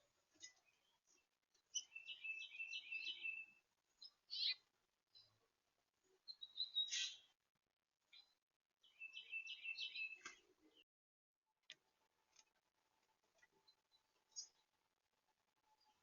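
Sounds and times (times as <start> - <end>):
songbirds chirping: 0.0 - 10.9, 11.6 - 16.0.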